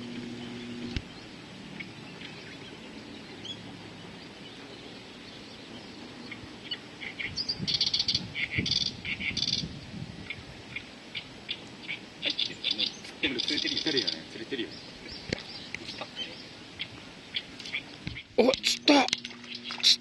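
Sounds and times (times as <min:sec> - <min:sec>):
bird singing: 0:00.0 - 0:20.0.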